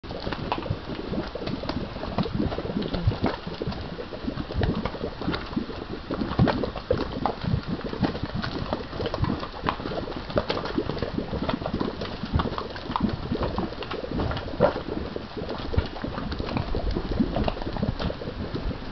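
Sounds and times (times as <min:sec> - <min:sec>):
mud bubbling and popping: 0:00.0 - 0:18.9.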